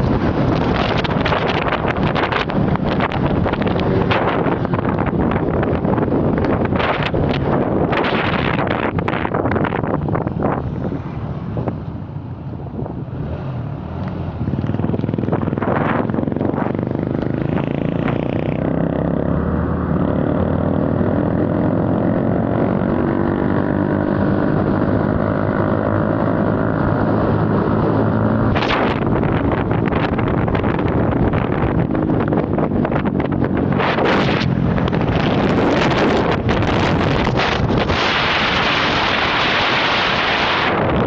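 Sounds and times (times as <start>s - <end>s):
wind buffeting microphone: 0.0s - 13.3s, 13.9s - 41.0s.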